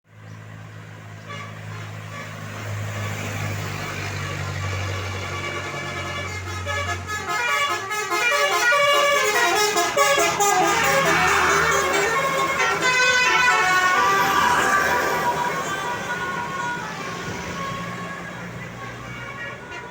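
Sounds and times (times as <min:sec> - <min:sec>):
bus engine drone: 0:00.1 - 0:19.9
bus horn playing melody: 0:01.2 - 0:19.9.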